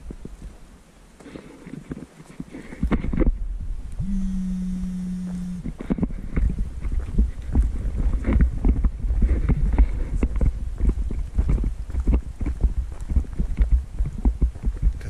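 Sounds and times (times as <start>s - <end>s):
wind and handling rumble: 0.0s - 15.0s
steady low hum: 2.6s - 15.0s.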